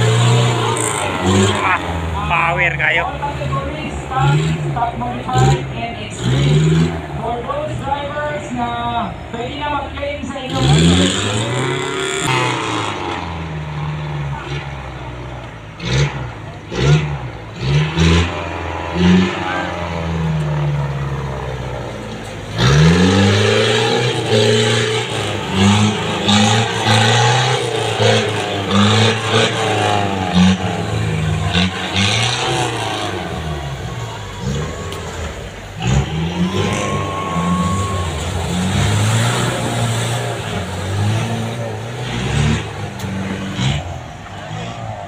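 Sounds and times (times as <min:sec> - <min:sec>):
jeep engines revving: 0:00.0 - 0:45.0.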